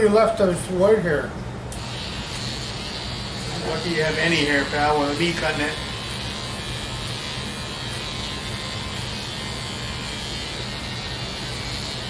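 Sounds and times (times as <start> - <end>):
electric hair clippers buzzing: 1.7 - 12.0.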